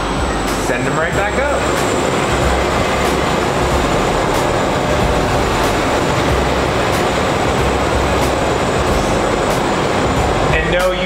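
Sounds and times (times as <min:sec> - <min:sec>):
elevator platform mechanical rumble: 0:00.0 - 0:11.0.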